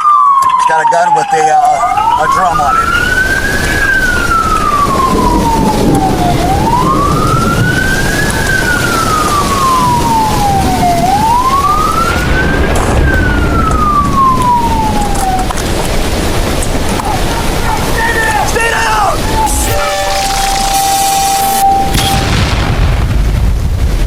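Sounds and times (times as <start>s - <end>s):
emergency siren wailing: 0.0s - 22.8s.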